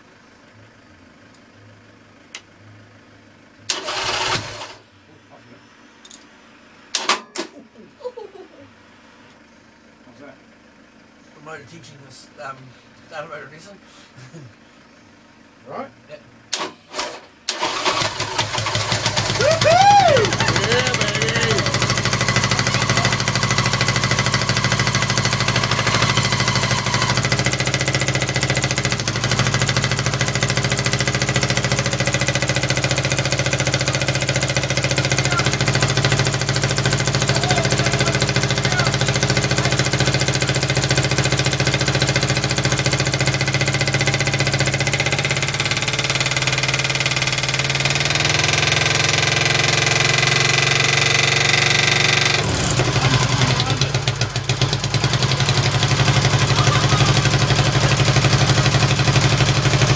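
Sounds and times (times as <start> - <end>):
motorcycle engine running: 0.0 - 5.2, 14.1 - 59.9.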